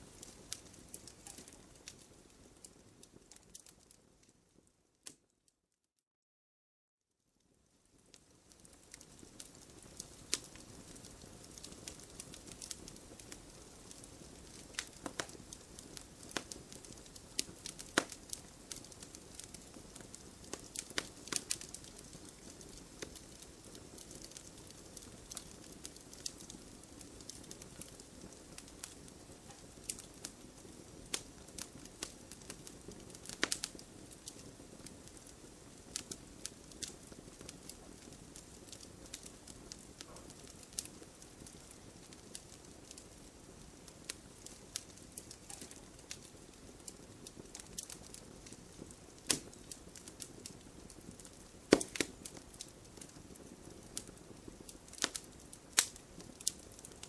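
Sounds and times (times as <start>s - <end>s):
wood fire crackling: 0.0s - 5.3s, 7.4s - 57.0s
fire snaps: 0.0s - 5.4s, 7.4s - 57.0s.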